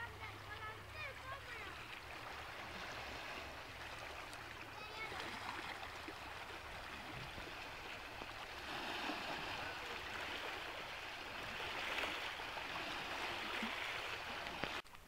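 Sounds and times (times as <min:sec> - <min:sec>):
small waves lapping on stones: 0:00.0 - 0:14.9.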